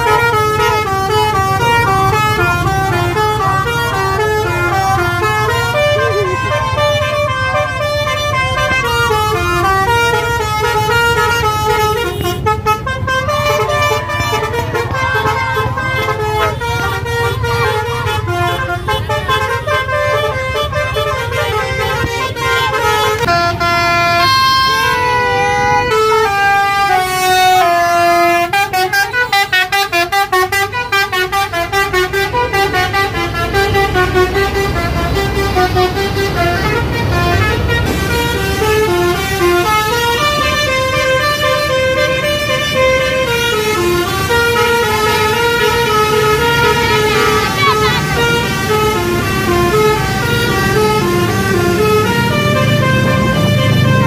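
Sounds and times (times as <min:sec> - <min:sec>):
bus engine rumbling: 0:00.0 - 0:54.0
bus musical horn playing a tune: 0:00.0 - 0:54.0.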